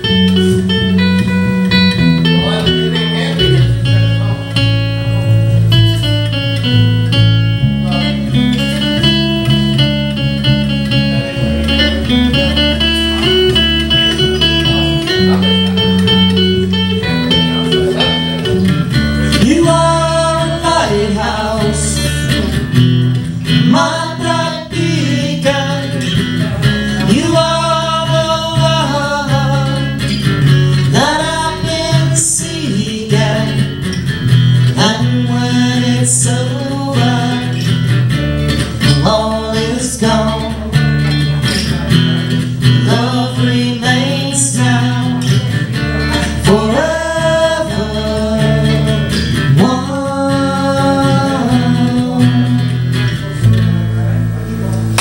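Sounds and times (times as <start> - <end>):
person singing: 0.0 - 53.5
acoustic guitar: 0.0 - 55.0
bass line: 0.0 - 55.0.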